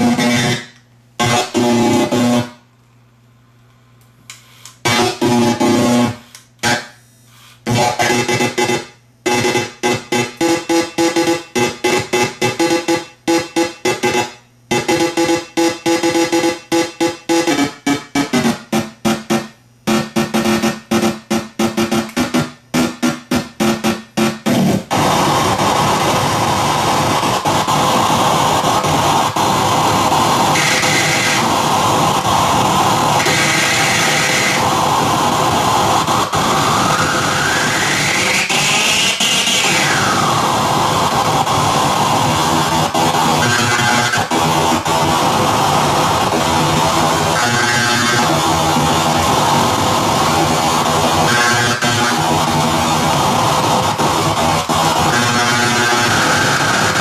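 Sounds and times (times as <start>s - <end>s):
glitchy stuttering electronic tones: 0.0s - 2.5s, 7.7s - 57.0s
noisy electronic drone: 0.0s - 2.6s, 4.8s - 7.0s, 7.6s - 57.0s.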